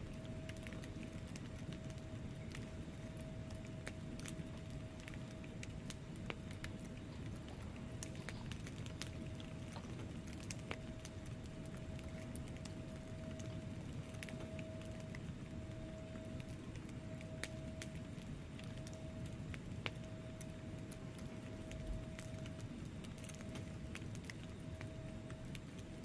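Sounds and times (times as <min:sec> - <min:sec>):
fire rumbling in fireplace: 0:00.0 - 0:26.0
logs crackling and popping: 0:00.0 - 0:26.0.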